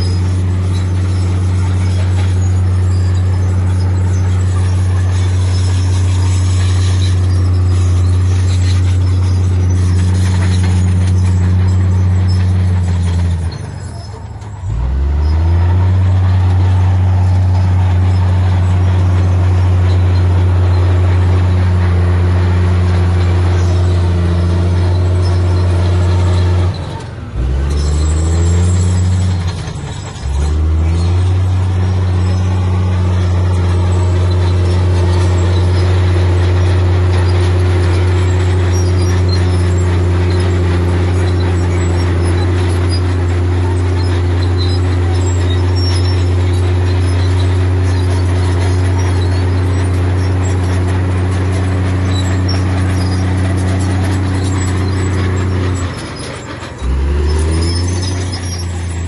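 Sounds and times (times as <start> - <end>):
heavy diesel engine under load: 0.0 - 59.0.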